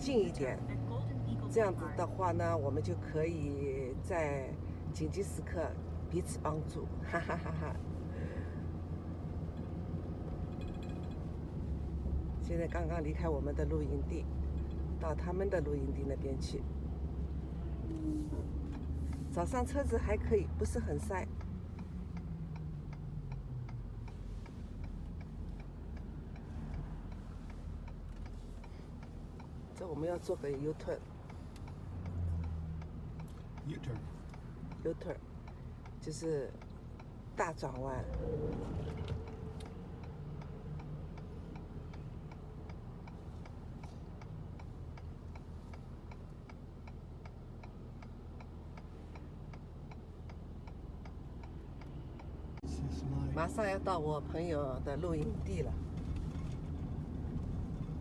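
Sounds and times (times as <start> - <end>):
road and engine rumble: 0.0 - 58.0
turn signal clicking: 0.0 - 58.0.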